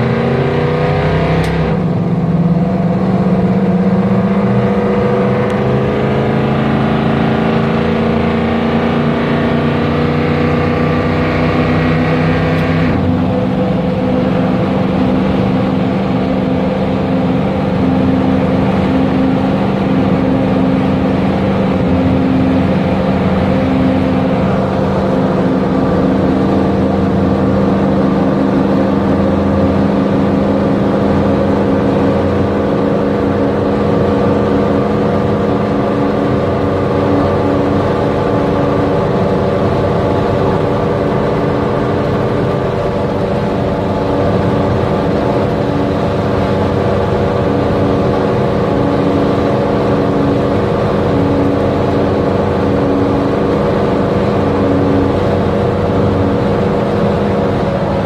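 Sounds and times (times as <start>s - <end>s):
car engine cruising: 0.0s - 58.0s.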